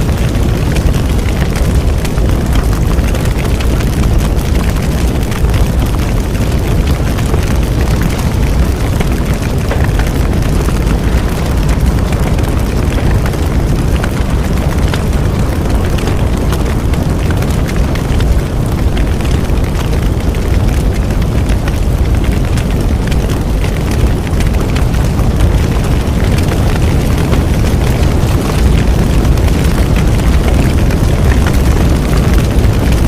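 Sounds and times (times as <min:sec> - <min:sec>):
bonfire flame rumbling: 0:00.0 - 0:33.0
burning wood crackling and popping: 0:00.0 - 0:33.0.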